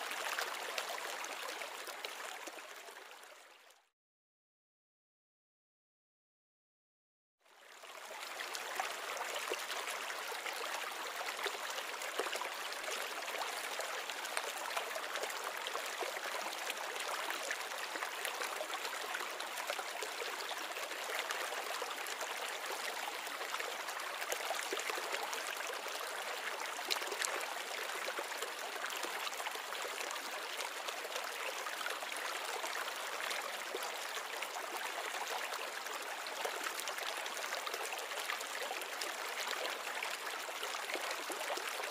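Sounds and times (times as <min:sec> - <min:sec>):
running water trickling and splashing: 0:00.0 - 0:03.7, 0:07.5 - 0:41.9.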